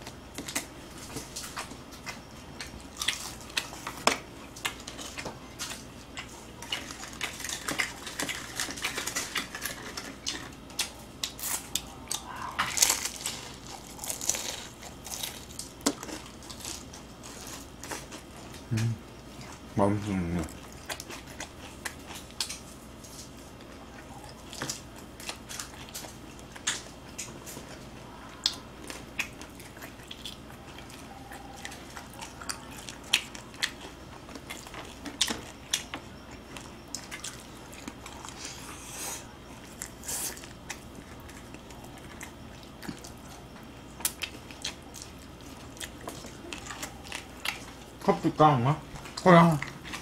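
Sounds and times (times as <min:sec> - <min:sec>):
crunchy chewing: 0:00.0 - 0:50.0.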